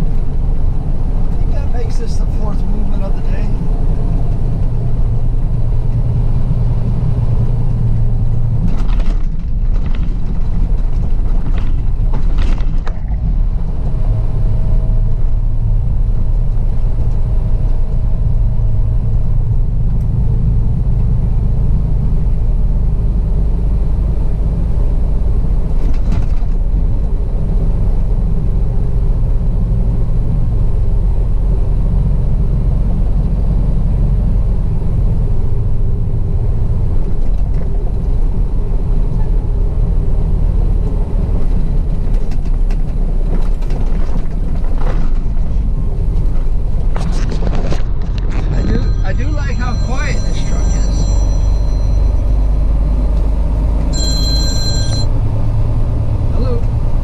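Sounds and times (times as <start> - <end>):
truck diesel engine and road noise: 0.0 - 57.0.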